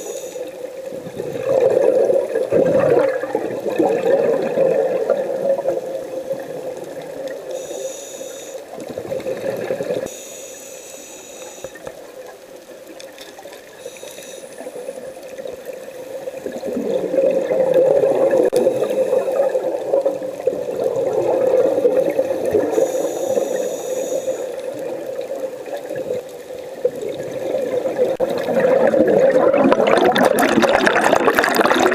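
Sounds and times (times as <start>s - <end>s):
underwater bubbles gurgling: 0.0s - 31.9s.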